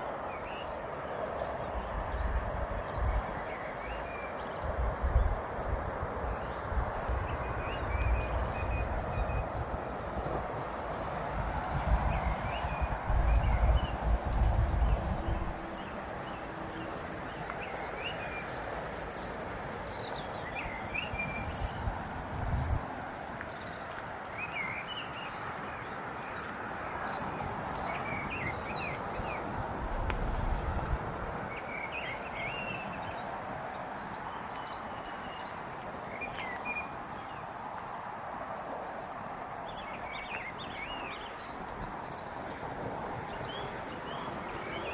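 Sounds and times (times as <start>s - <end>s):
songbirds chirping: 0.0s - 44.9s.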